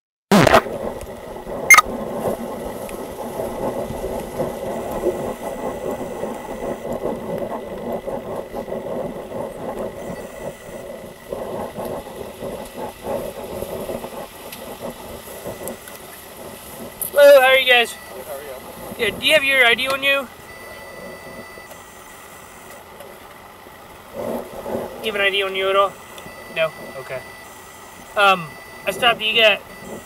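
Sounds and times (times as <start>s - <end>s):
car engines idling: 1.2s - 30.0s.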